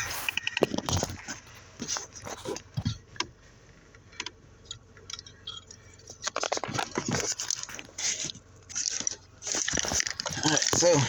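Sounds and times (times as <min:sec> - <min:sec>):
rustling and scuffling: 0:00.0 - 0:04.0, 0:06.0 - 0:11.0.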